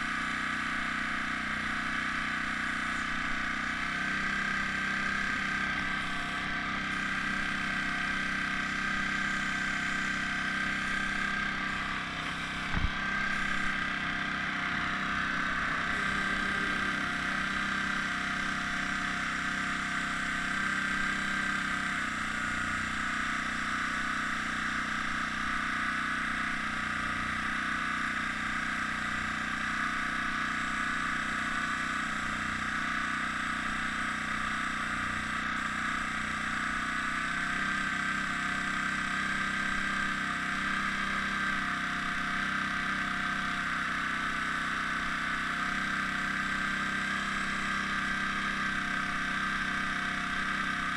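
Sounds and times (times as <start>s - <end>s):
air compressor running: 0.0s - 50.9s.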